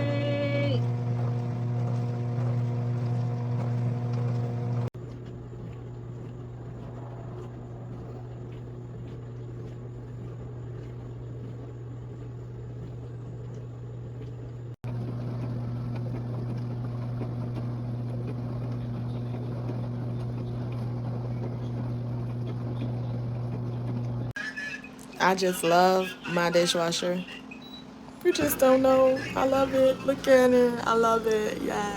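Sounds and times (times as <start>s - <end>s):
dishwasher pump hum: 0.0s - 31.9s.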